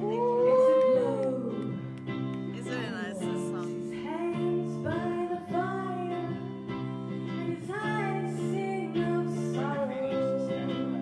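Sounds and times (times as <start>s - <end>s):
woman singing: 0.0s - 1.9s, 2.6s - 11.0s
electric guitar notes: 0.0s - 11.0s.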